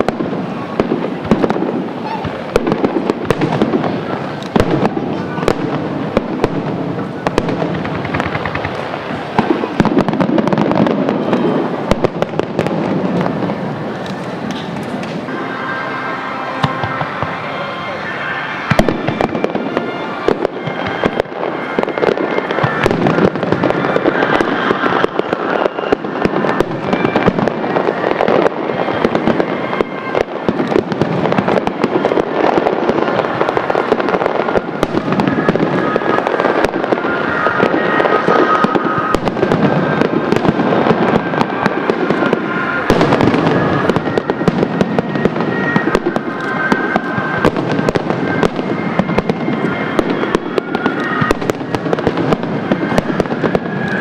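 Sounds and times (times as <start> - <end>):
fireworks crackling and popping: 0.0 - 54.0.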